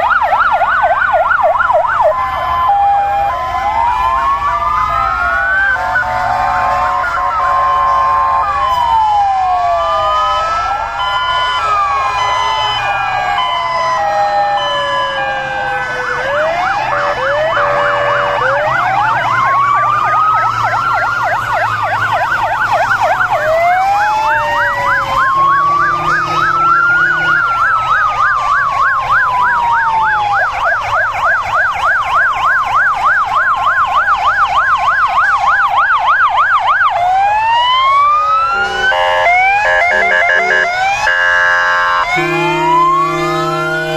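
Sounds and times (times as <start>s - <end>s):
two-tone siren: 0.0s - 43.9s
wailing sirens: 0.0s - 43.9s
yelping siren warble: 0.0s - 43.9s.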